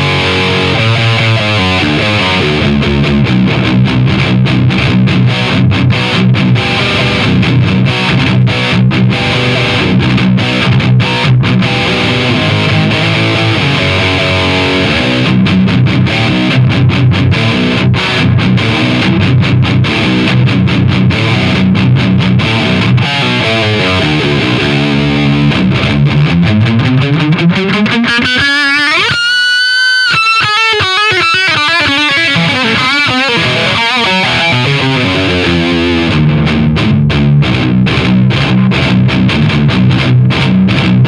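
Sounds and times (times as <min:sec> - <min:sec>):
distorted electric guitar: 0:00.0 - 0:41.0.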